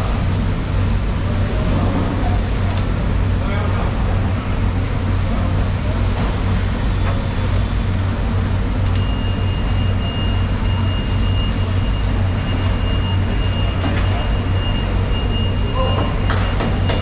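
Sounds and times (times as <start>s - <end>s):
low mechanical hum: 0.0s - 17.0s
noisy background: 0.0s - 17.0s.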